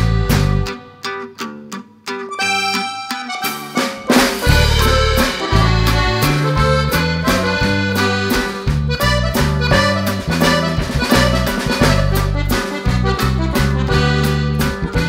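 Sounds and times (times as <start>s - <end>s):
bouncy accordion music: 0.0s - 1.0s, 2.3s - 15.0s.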